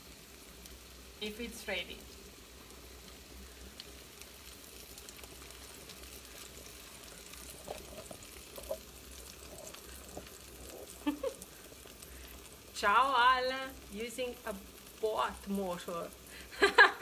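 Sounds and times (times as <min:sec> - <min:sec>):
faint sizzle from pan: 0:00.0 - 0:17.0
low steady hum: 0:00.0 - 0:17.0.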